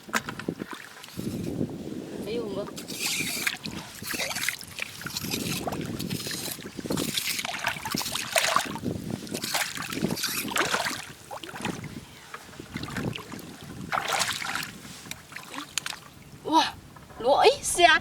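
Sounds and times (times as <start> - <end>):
seawater splashing and sloshing: 0.0 - 16.4.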